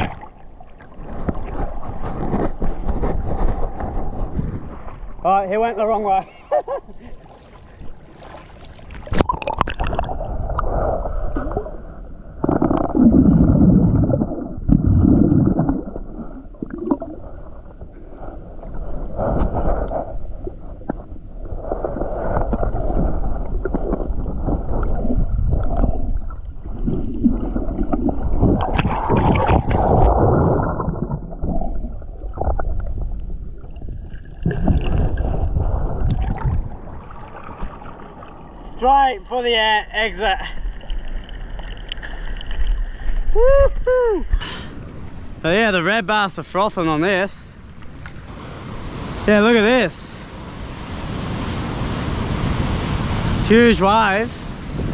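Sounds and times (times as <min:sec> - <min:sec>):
muffled underwater water rush: 0:00.0 - 0:54.9.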